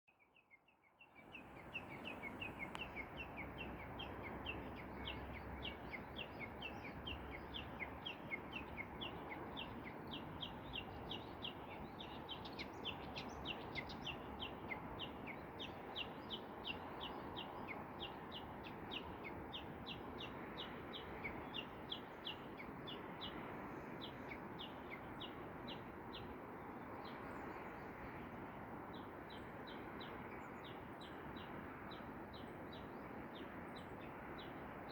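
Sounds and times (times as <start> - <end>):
songbird chirping: 0.1 - 34.8.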